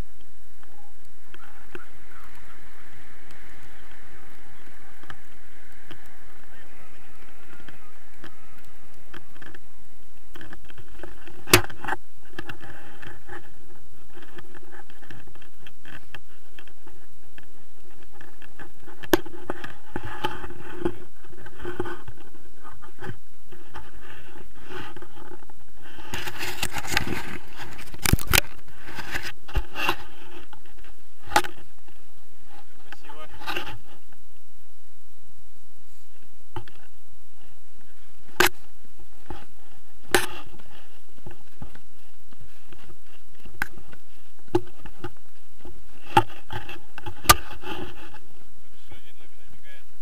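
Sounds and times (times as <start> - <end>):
steady hiss: 0.0 - 50.0
rustling and scraping: 0.6 - 34.3, 35.8 - 50.0.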